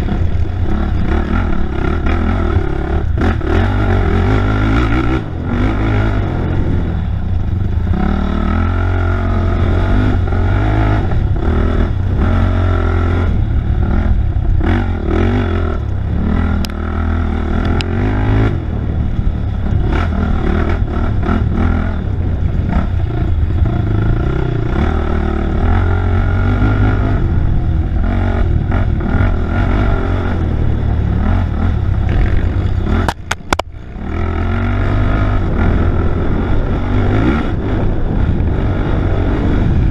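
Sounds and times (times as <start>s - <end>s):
off-road engine revving: 0.0s - 39.9s.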